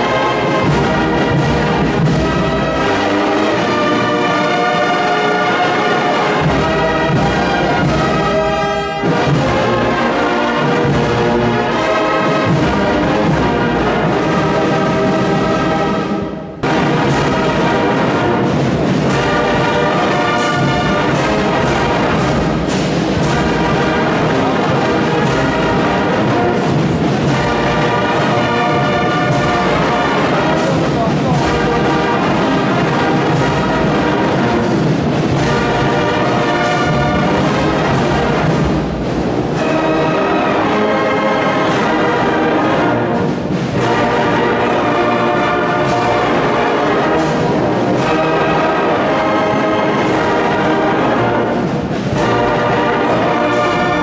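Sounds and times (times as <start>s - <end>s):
brass band playing slow chords: 0.0s - 54.0s.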